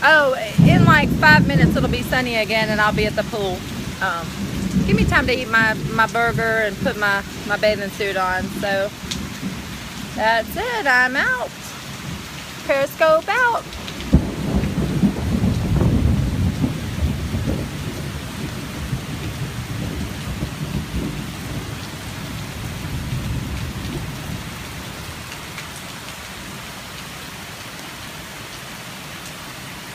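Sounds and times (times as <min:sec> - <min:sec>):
thunder rumbling: 0:00.0 - 0:25.9
heavy rain: 0:00.0 - 0:29.9.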